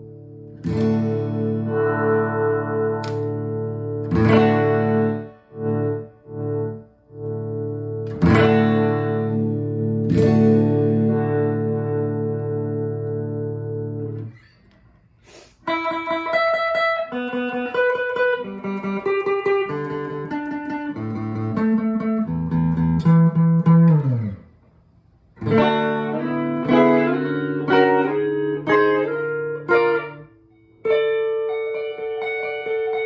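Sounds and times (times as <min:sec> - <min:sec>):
electric guitar chord ringing: 0:00.0 - 0:14.4, 0:15.7 - 0:24.6, 0:25.4 - 0:33.0
electric guitar lead lines: 0:00.0 - 0:14.5, 0:15.6 - 0:24.7, 0:25.3 - 0:33.0.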